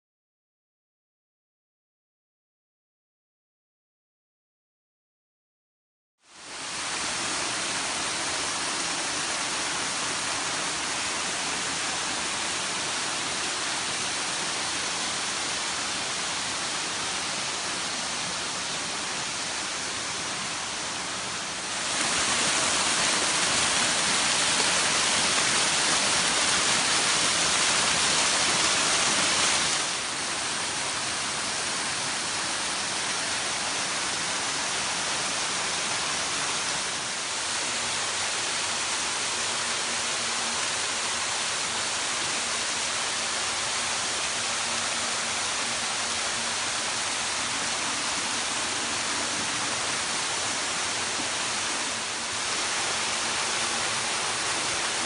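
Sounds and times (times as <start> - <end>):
waterfalls splashing over rocks: 6.4 - 55.0.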